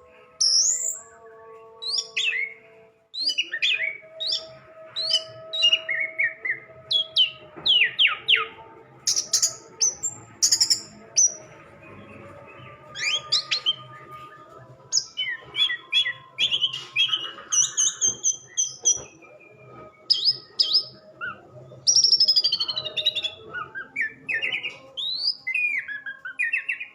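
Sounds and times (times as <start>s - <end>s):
thrush singing: 0.0s - 26.9s.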